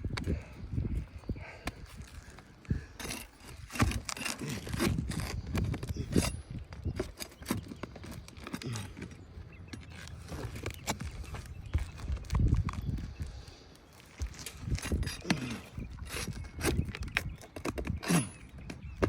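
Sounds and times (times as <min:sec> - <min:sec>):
tools scraping roof shingles: 0:02.0 - 0:12.6, 0:14.0 - 0:19.0.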